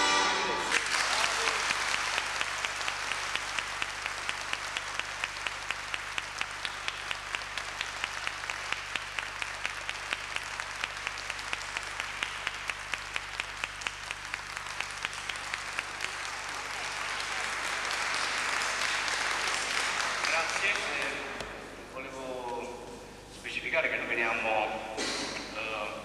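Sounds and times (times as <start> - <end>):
audience applauding: 0.0 - 21.5
close hand claps: 0.6 - 21.6.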